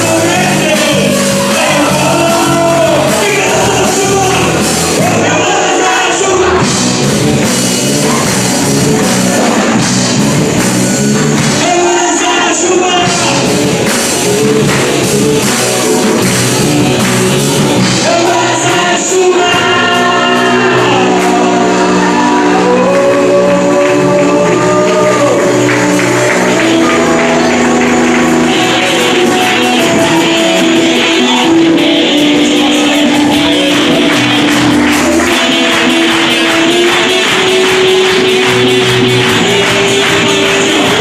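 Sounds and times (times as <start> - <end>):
voices singing: 0.0 - 9.9, 10.9 - 41.0
worship band playing: 0.0 - 41.0.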